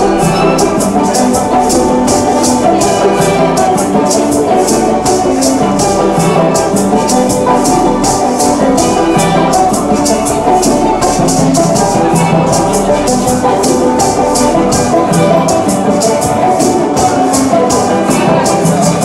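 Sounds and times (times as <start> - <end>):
banjo playing a tune: 0.0 - 19.0
maracas shaking: 0.0 - 19.0.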